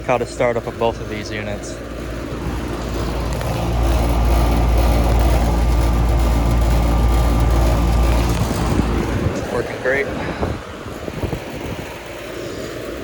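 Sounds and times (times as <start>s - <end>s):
air conditioner unit running: 0.0s - 13.0s.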